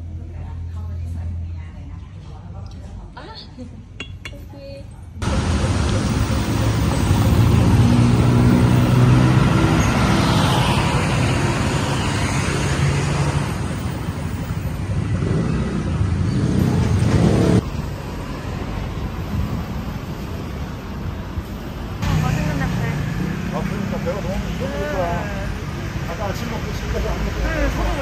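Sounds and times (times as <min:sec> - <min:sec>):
vehicles passing close by: 0:05.2 - 0:28.0.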